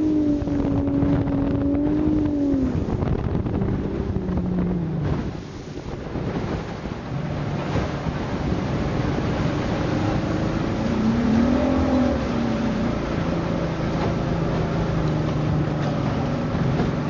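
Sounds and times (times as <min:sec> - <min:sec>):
boat engine running: 0:00.0 - 0:17.0
rush of wind and water: 0:00.0 - 0:17.0.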